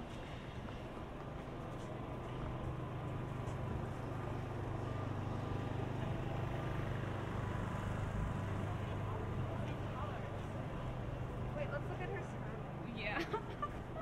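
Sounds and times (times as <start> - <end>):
city street noise: 0.0 - 14.0
vehicle engine humming: 0.0 - 14.0.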